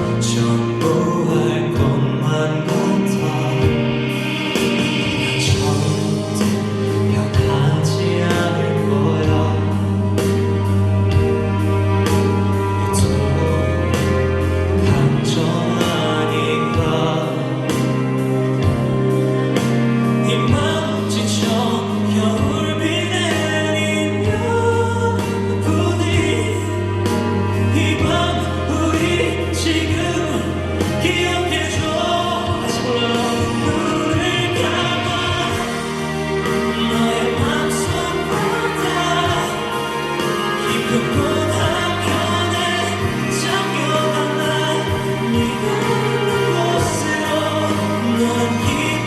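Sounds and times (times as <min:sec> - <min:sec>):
instrumental accompaniment: 0:00.0 - 0:49.0
person singing pop ballad: 0:00.0 - 0:49.0.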